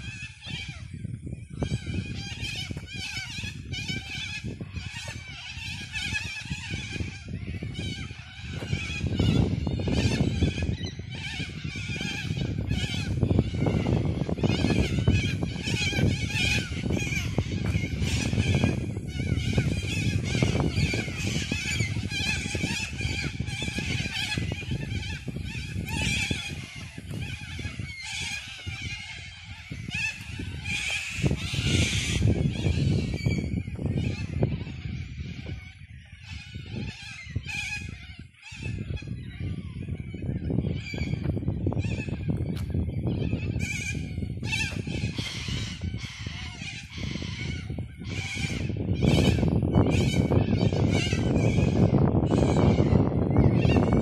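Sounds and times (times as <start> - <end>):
birds screeching: 0.0 - 54.0
wind rumble on microphone: 0.0 - 54.0.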